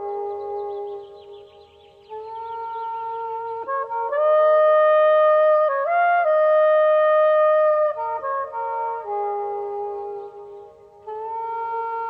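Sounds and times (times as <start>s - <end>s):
slow instrumental wind music: 0.0s - 12.0s.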